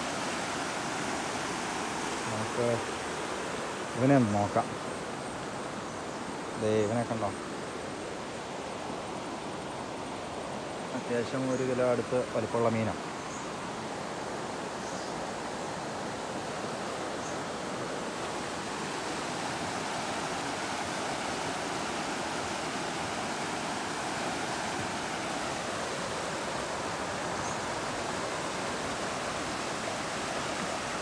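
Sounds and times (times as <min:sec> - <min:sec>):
river rushing over rapids: 0:00.0 - 0:31.0.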